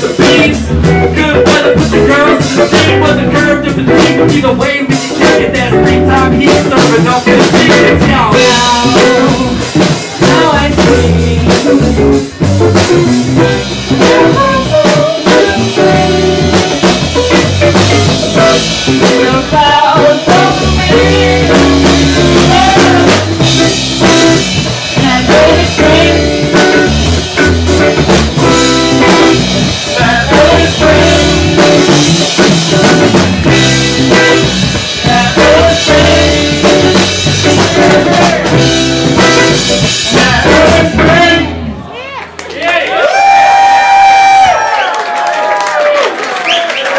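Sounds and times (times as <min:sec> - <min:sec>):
drum kit: 0:00.0 - 0:41.8
live jazz-funk band playing: 0:00.0 - 0:41.8
electric guitar: 0:00.0 - 0:41.9
bass: 0:00.0 - 0:46.9.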